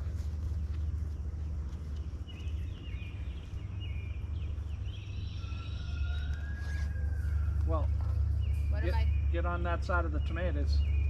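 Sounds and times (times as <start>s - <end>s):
steady low rumble: 0.0s - 6.4s, 7.0s - 11.0s
birds chirping: 0.0s - 11.0s.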